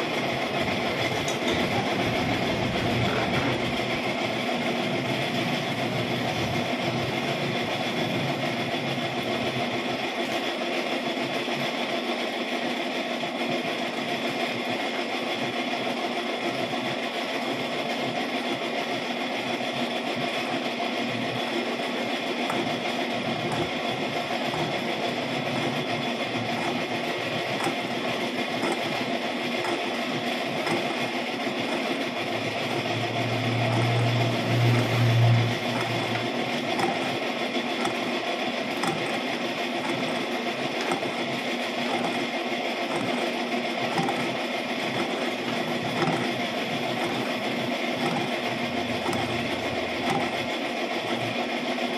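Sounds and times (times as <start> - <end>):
metal lathe running: 0.0 - 51.9.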